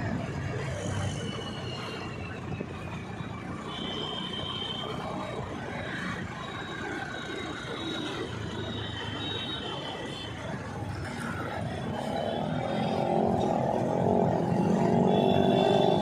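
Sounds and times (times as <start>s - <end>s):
passing road vehicles: 0.0s - 16.0s.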